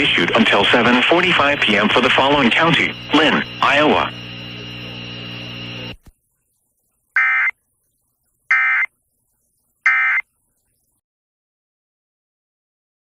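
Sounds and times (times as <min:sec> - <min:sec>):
steady broadcast hum: 0:00.0 - 0:11.0.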